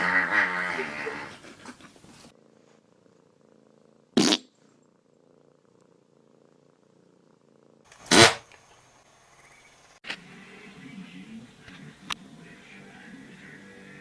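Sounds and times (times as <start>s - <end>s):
cat purring: 0.0s - 7.9s, 10.3s - 14.0s.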